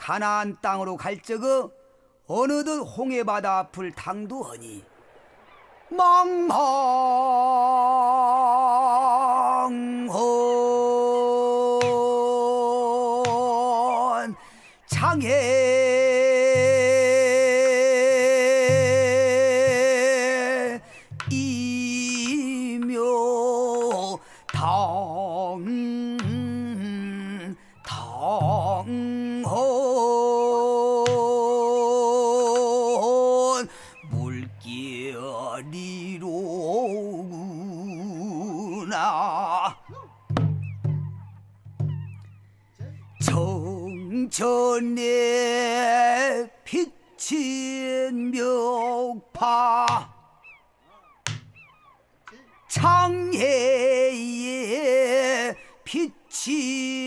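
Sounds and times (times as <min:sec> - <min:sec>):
man singing long notes: 0:05.9 - 0:40.2, 0:42.8 - 0:50.3, 0:52.7 - 0:57.0.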